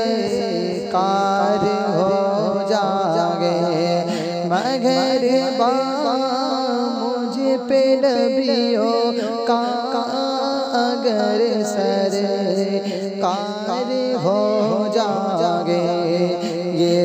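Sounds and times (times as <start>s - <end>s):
wordless vocal melody: 0.0s - 17.0s.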